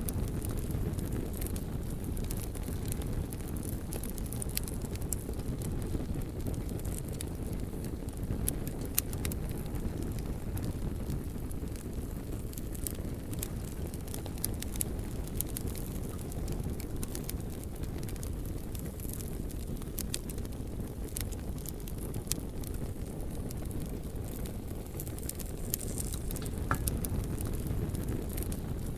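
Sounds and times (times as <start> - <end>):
flames rushing: 0.0 - 28.9
wood crackling and popping: 0.0 - 28.9.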